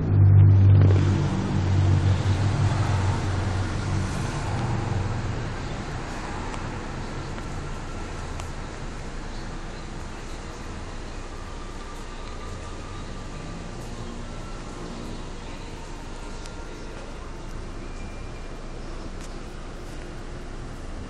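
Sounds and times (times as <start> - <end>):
car engine humming: 0.0 - 21.0
faint traffic noise: 0.0 - 21.0.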